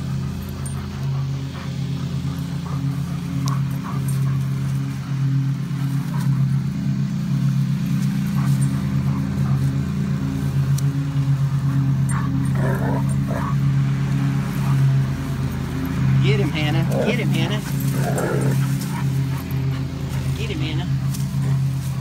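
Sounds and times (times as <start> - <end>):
dogs growling and snarling: 0.0 - 22.0
engine drone: 0.0 - 22.0.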